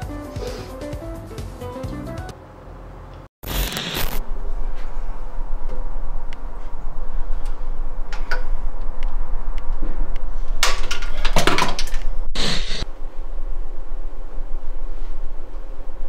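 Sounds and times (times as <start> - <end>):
steady low hum: 2.4 - 16.0.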